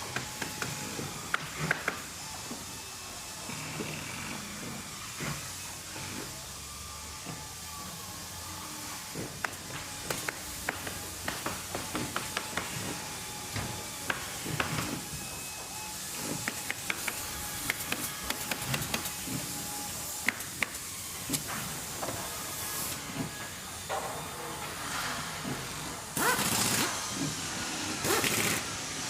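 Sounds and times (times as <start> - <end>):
steady machinery hiss: 0.0 - 29.0.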